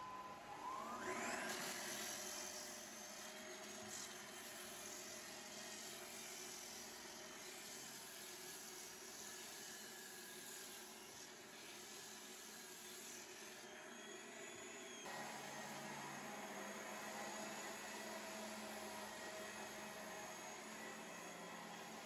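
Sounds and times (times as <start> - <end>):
floor sander whining: 0.0 - 8.6, 12.7 - 22.0.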